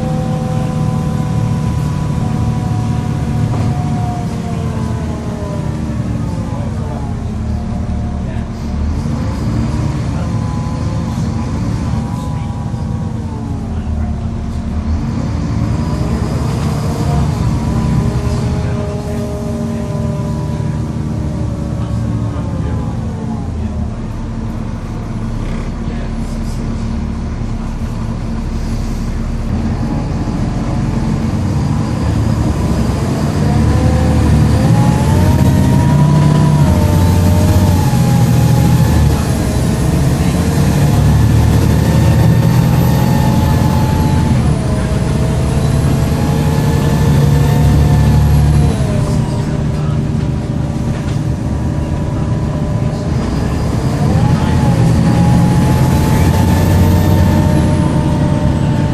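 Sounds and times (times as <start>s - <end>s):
bus diesel engine whine: 0.0s - 58.9s.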